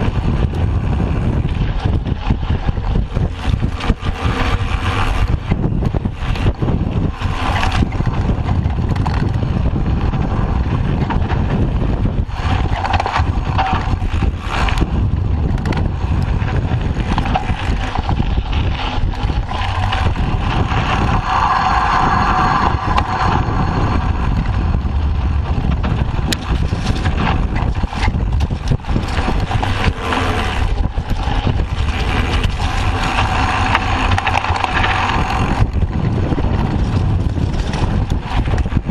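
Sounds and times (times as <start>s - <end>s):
bike knocks and rattles: 0.0s - 22.0s, 24.3s - 38.9s
tyre rumbling on dirt trail: 0.0s - 38.9s
wind rush on microphone: 0.0s - 38.9s.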